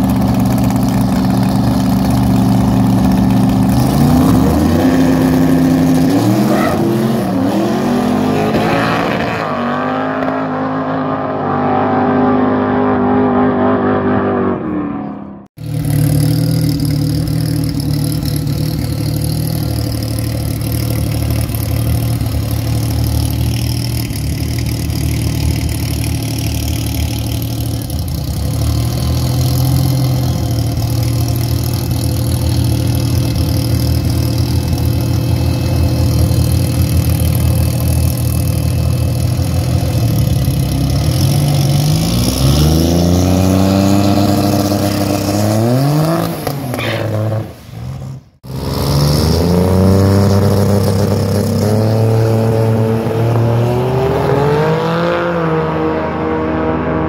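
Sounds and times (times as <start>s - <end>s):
race car engine revving: 0.0s - 47.6s, 48.4s - 57.0s.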